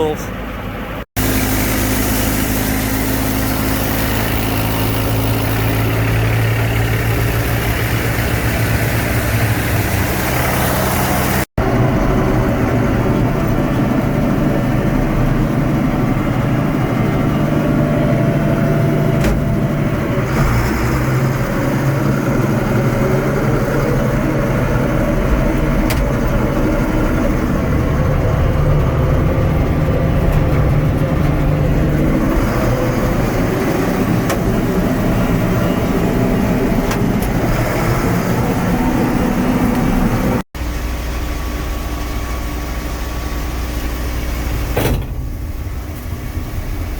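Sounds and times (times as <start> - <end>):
heavy diesel engines running: 0.0 - 46.9.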